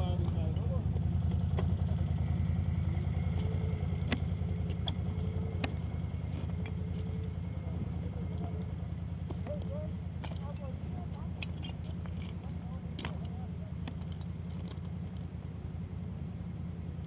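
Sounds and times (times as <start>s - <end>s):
atv engine rumbling at low revs: 0.0s - 17.0s.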